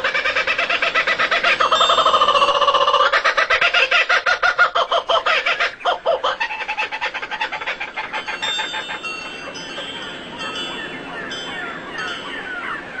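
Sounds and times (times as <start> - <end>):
rapid pulsing bird calls: 0.0 - 13.0.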